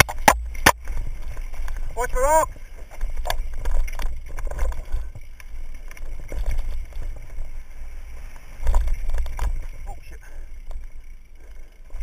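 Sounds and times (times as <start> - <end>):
mountain bike rattling over rocks: 0.0 - 12.0.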